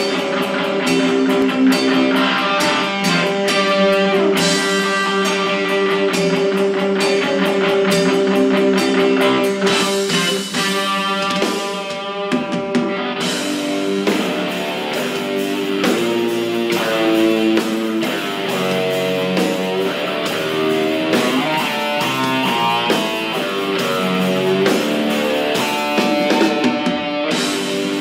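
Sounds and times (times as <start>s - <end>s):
drum and cymbal hits: 0.0s - 28.0s
electric guitar chords: 0.0s - 28.0s
live heavy metal band: 0.0s - 28.0s.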